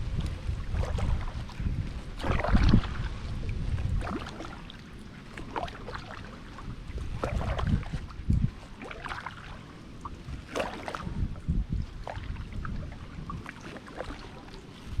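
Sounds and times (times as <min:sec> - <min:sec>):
kayak paddle splashing: 0:00.0 - 0:15.0.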